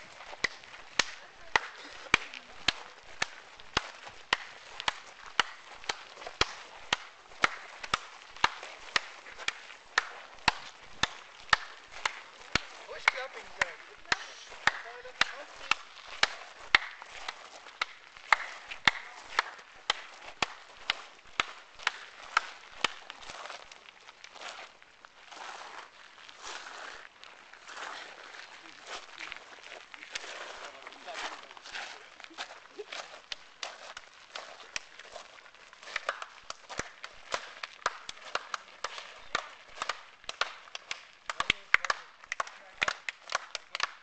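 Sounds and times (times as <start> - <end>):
footsteps and shuffling: 0.0 - 44.0.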